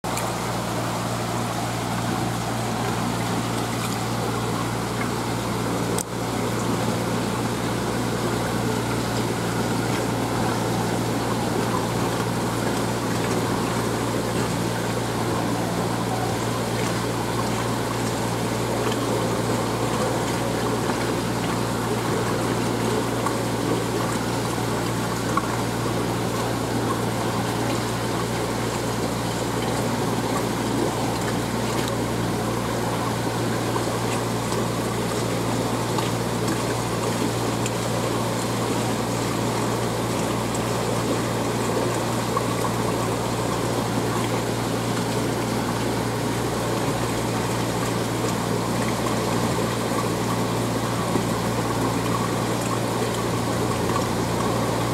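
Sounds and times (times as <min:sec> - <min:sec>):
flowing water: 0:00.0 - 0:54.9
water pump humming: 0:00.0 - 0:54.9.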